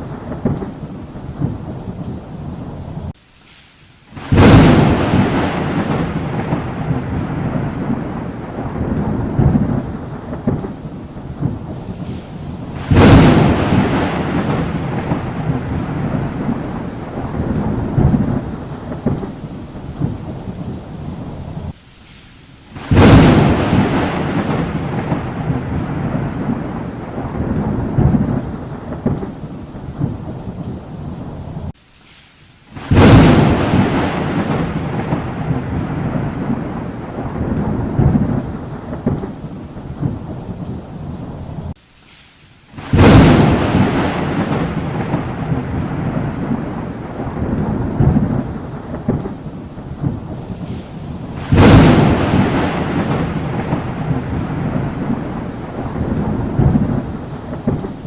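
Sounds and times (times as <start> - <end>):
thunder claps: 0.0 - 3.2, 4.2 - 21.8, 22.8 - 31.7, 32.8 - 41.8, 42.8 - 58.0
steady rain: 0.0 - 58.0.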